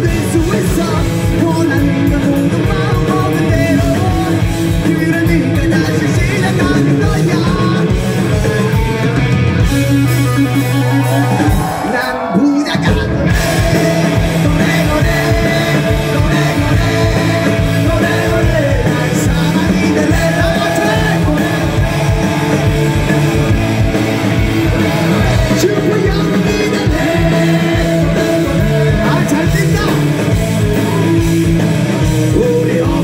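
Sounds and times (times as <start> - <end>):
person singing: 0.0 - 9.1, 10.8 - 33.0
fast drumbeat: 0.0 - 11.9, 12.7 - 33.0
electric guitars: 0.0 - 33.0.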